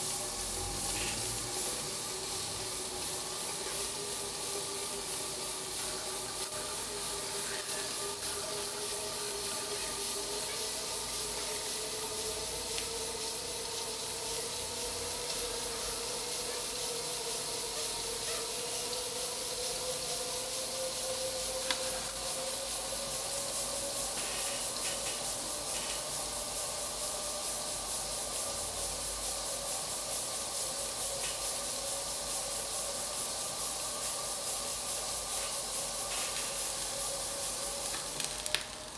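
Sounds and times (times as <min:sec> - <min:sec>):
steam hissing: 0:00.0 - 0:38.9.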